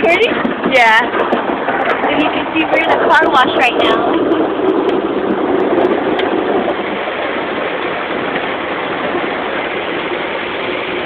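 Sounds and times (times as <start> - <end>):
water spray rushing on car: 0.0 - 11.0.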